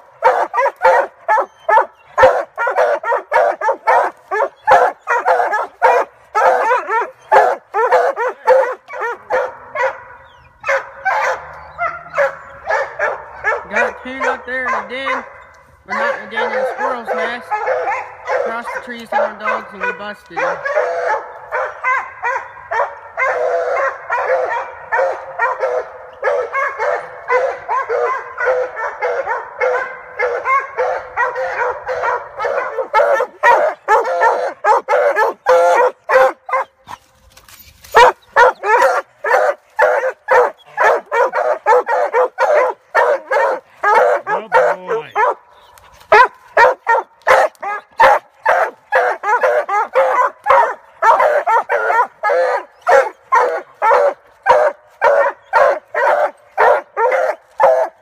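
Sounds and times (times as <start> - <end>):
dogs barking: 0.0 - 37.0, 37.8 - 58.0.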